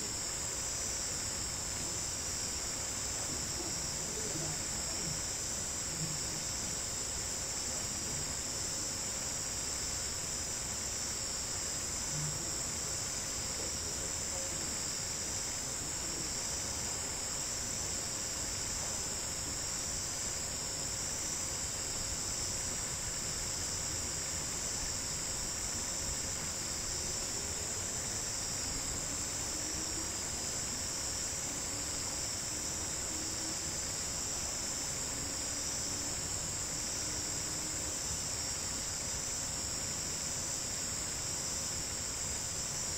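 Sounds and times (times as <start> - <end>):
crickets chirping: 0.0 - 42.9
faint low hum: 0.0 - 42.9.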